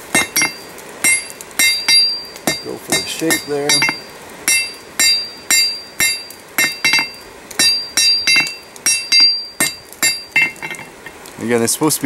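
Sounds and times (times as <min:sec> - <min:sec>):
hammer striking metal on anvil: 0:00.1 - 0:10.9.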